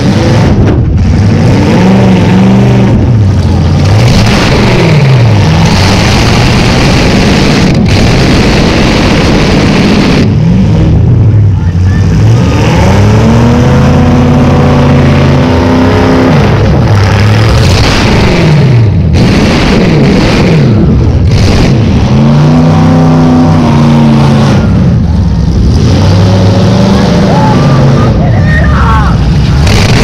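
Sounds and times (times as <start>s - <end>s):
loud car engine revving: 0.0s - 30.0s.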